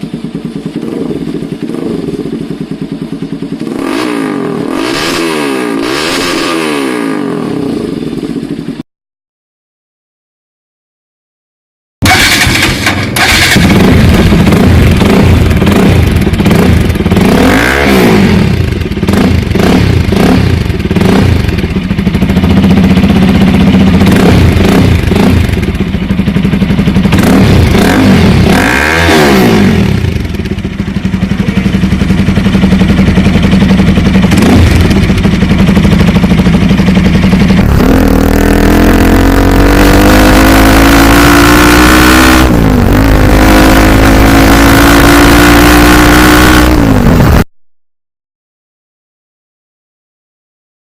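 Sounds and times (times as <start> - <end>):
motorcycle engine revving: 0.0 - 8.8, 12.0 - 47.5.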